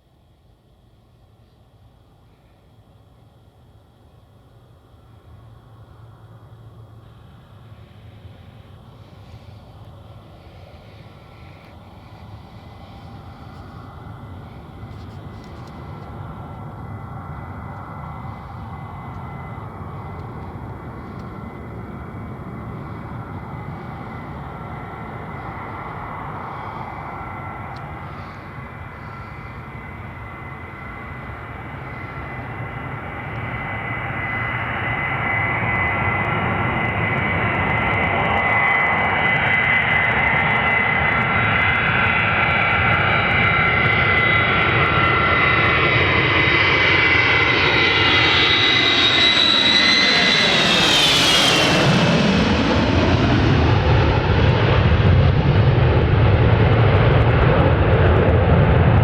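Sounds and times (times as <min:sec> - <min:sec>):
jet aircraft engine whine: 0:00.0 - 0:59.0
deep jet rumble: 0:04.9 - 0:59.0.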